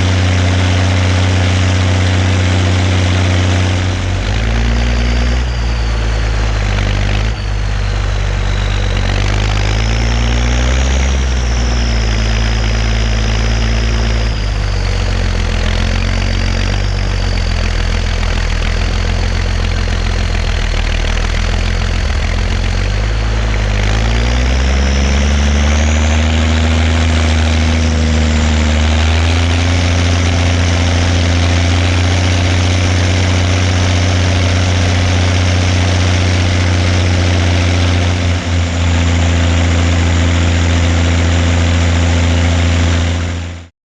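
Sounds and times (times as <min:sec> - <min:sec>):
tractor diesel engine running: 0:00.0 - 0:43.7
high whistle: 0:00.2 - 0:42.8.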